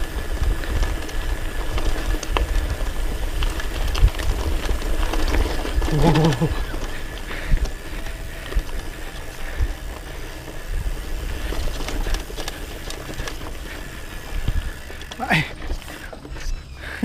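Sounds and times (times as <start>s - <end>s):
bike frame rattling: 0.0s - 17.0s
tyres crunching on gravel: 0.0s - 17.0s
wind rumbling on microphone: 0.0s - 17.0s.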